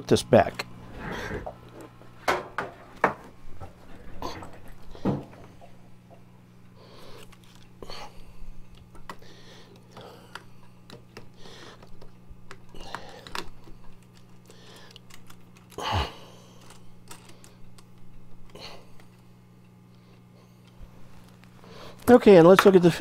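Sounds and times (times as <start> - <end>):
fan humming: 0.0 - 23.0.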